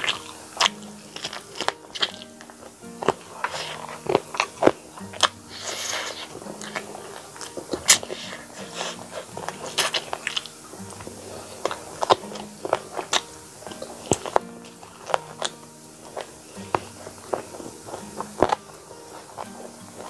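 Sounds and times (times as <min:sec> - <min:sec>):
biting and chewing: 0:00.0 - 0:20.0
wet smacks and clicks: 0:00.0 - 0:20.0
short sucking hiss: 0:02.4 - 0:19.1.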